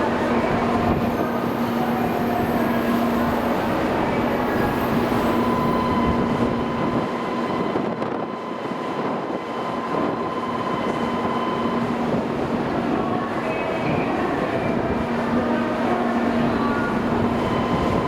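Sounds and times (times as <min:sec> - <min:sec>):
train rumbling with whine: 0:00.0 - 0:18.0.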